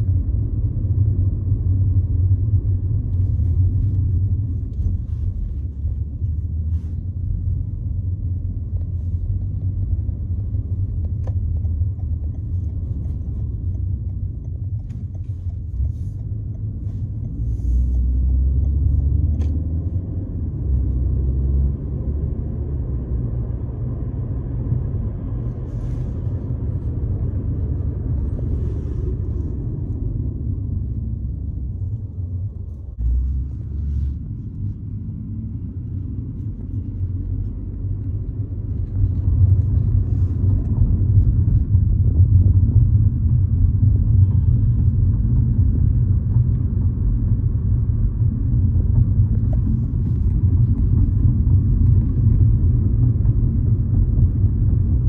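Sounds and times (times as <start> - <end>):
car interior road noise: 0.0 - 55.0.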